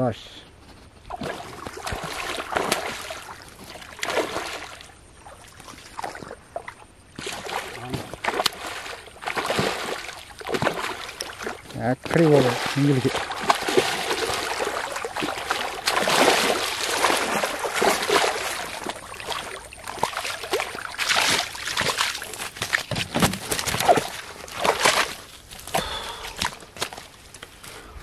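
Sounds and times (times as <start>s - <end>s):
fish splashing in water: 1.1s - 27.0s.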